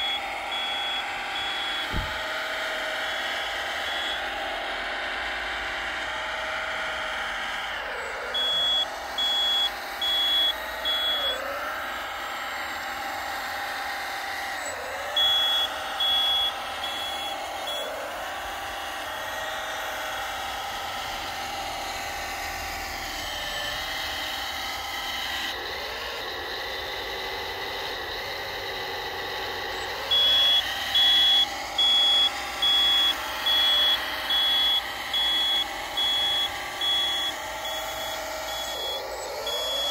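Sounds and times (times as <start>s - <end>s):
high reversing alarm beeping: 0.0s - 4.4s, 6.7s - 25.6s, 26.2s - 39.9s
toy loader motor whine: 0.0s - 39.9s.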